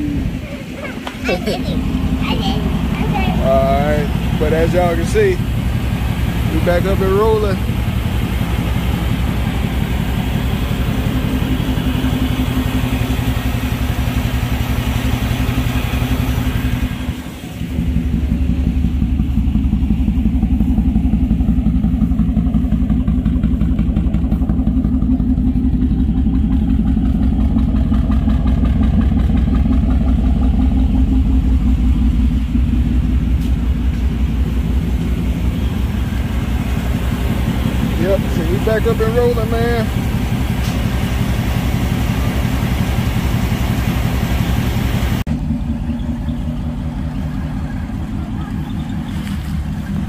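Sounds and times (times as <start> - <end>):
engine hiss: 0.0 - 50.0
truck engine idling: 0.0 - 50.0.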